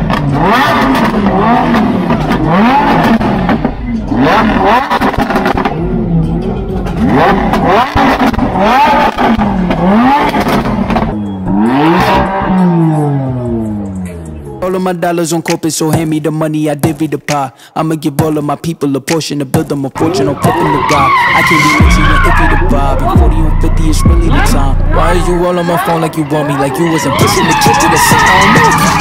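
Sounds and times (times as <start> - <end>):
car engine revving: 0.0 - 17.4, 19.9 - 29.0.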